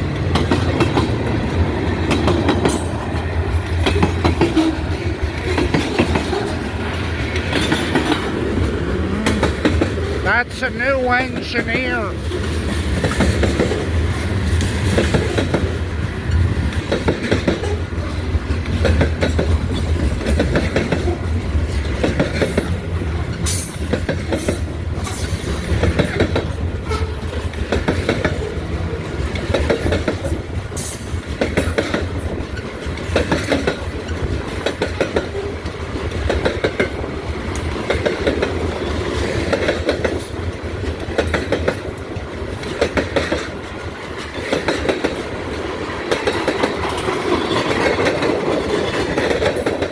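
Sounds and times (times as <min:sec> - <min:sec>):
train wheels clicking over rail joints: 0:00.0 - 0:10.2, 0:12.2 - 0:49.9.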